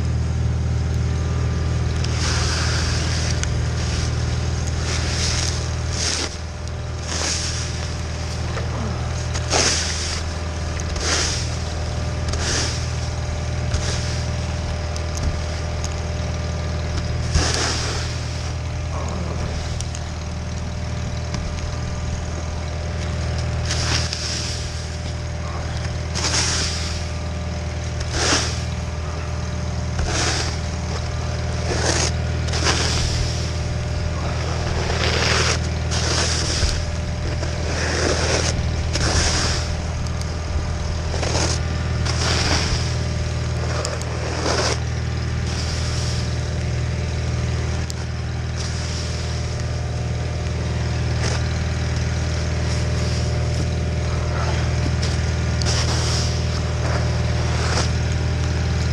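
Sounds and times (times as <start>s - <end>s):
garden tractor engine under load: 0.0s - 58.9s.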